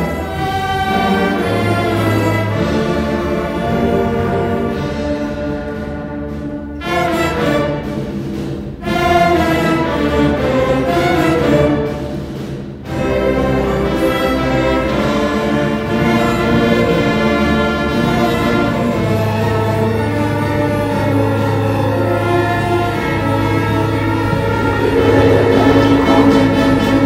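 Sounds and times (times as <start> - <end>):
orchestral strings and brass: 0.0 - 27.0.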